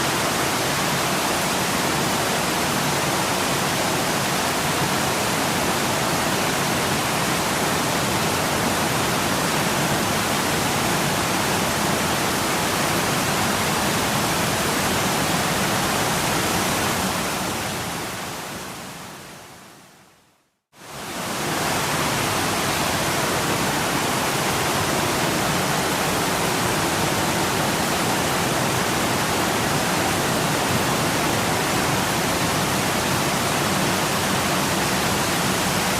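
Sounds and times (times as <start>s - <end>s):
waterfall rushing: 0.0s - 19.5s, 20.8s - 35.9s.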